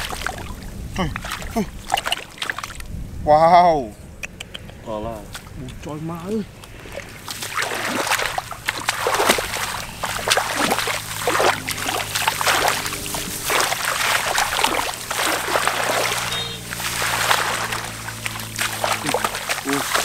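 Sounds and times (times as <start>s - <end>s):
hands splashing in muddy water: 0.0s - 2.9s, 6.6s - 20.0s.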